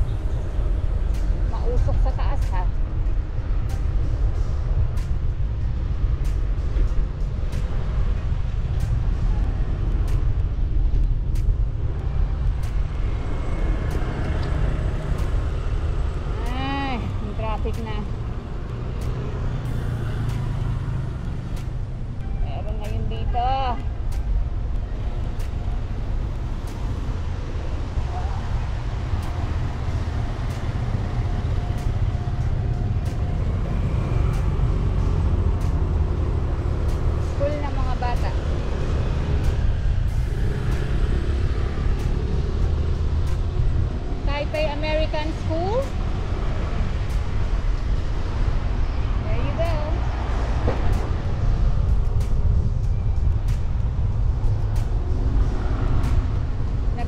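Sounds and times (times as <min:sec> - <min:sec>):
traffic rumble: 0:00.0 - 0:57.0
wind and road noise: 0:00.0 - 0:57.0.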